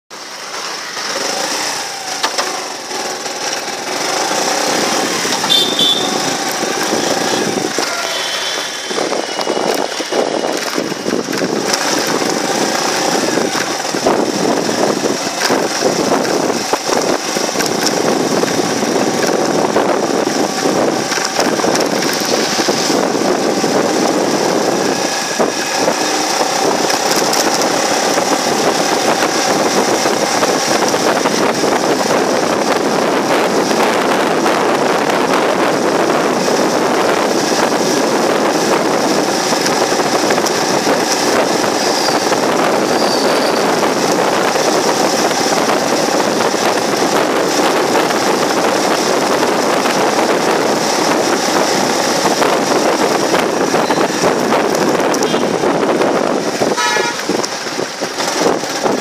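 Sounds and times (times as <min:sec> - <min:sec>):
motorcycle engine running: 0:00.1 - 0:59.0
traffic noise: 0:00.1 - 0:59.0.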